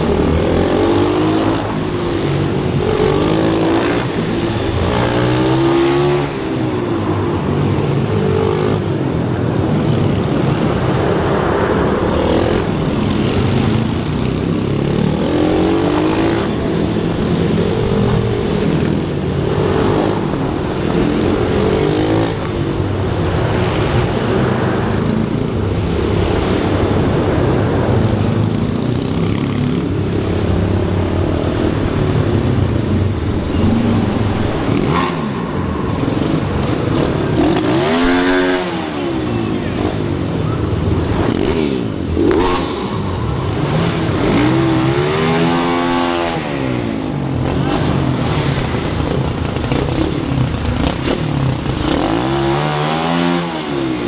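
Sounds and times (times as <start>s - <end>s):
small motorcycle engine revving: 0.0s - 54.0s.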